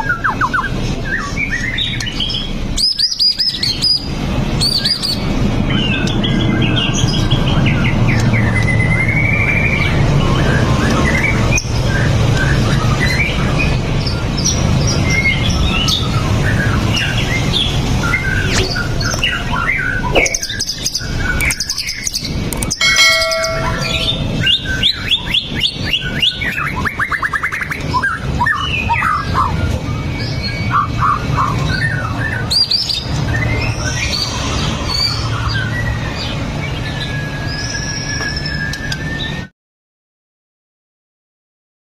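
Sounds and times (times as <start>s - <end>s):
bird singing whistles and trills: 0.0s - 39.5s.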